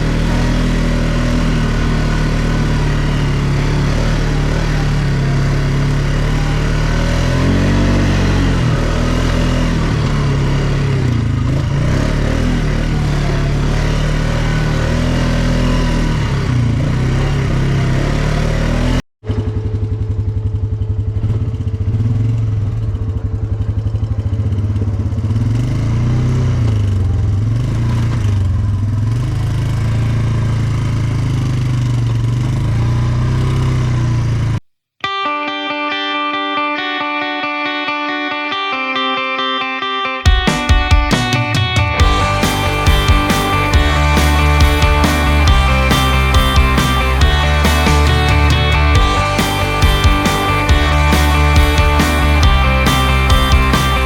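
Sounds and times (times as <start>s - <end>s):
atv engine revving: 0.0s - 34.6s, 42.0s - 54.0s.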